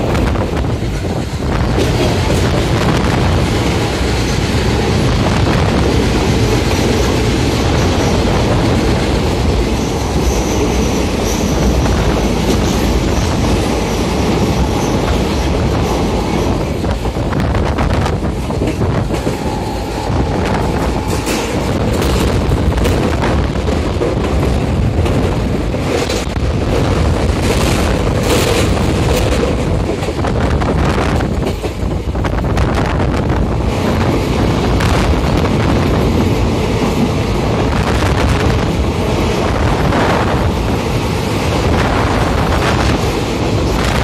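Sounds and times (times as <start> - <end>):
train wheels rumbling on rails: 0.0 - 44.0
wind buffeting microphone: 0.0 - 44.0.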